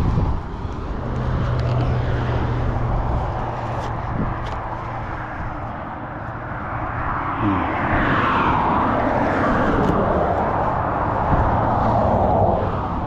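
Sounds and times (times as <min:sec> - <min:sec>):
vehicle engine noise: 0:00.0 - 0:13.0.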